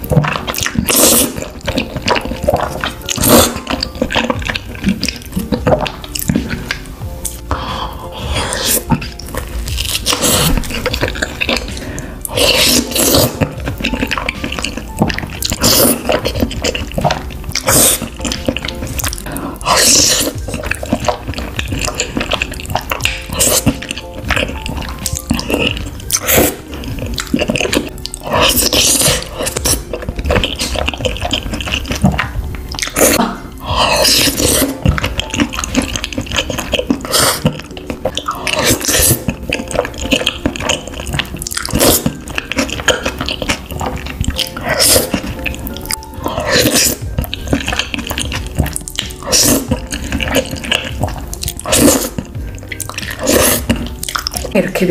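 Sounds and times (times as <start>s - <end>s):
noodles being slurped and chewed: 0.0s - 54.9s.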